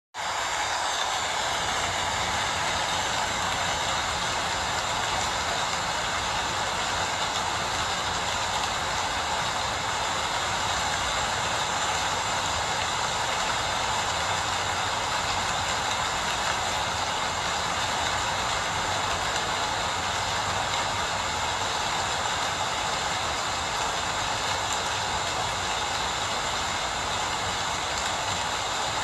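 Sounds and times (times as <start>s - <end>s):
steady rain: 0.2s - 29.0s.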